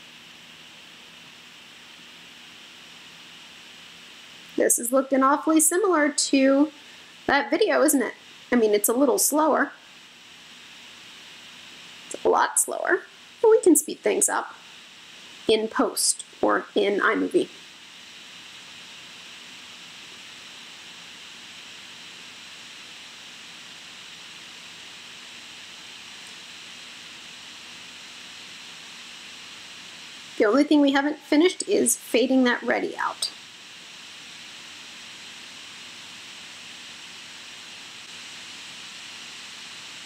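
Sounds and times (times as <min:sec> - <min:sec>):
steady microphone hiss: 0:00.0 - 0:40.0.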